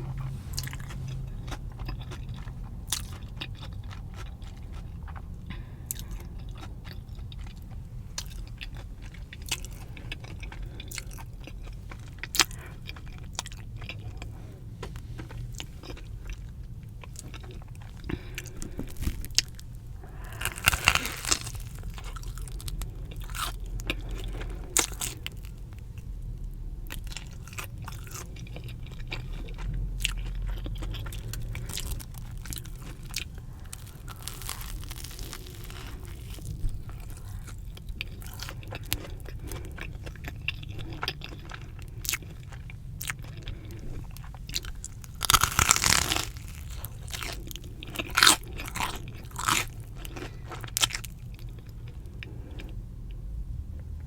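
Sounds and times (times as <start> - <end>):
crunching and chewing food: 0.0 - 54.0.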